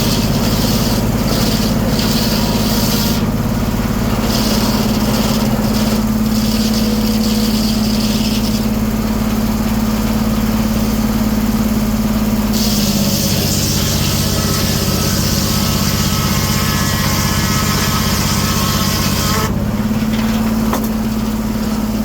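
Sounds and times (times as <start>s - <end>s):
sawmill engine droning: 0.0s - 22.0s.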